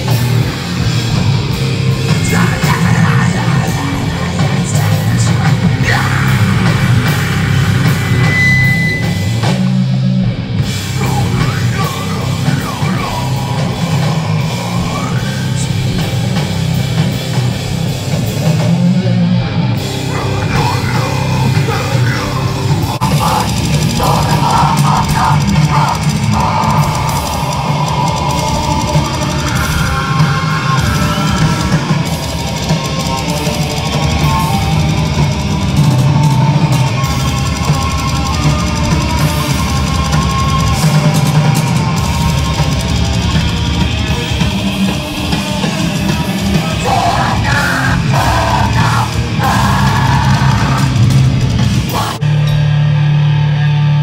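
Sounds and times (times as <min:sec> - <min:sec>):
heavy metal band playing live: 0:00.0 - 0:54.0.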